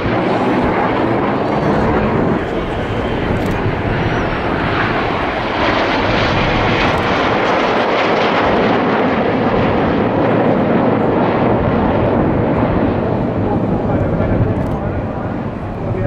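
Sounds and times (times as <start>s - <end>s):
airplane engine flying past: 0.0s - 16.0s.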